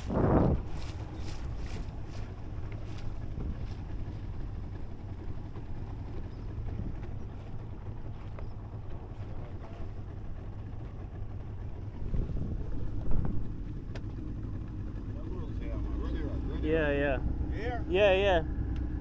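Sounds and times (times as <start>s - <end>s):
boat engine humming: 0.0s - 19.0s
wind buffeting microphone: 0.0s - 19.0s.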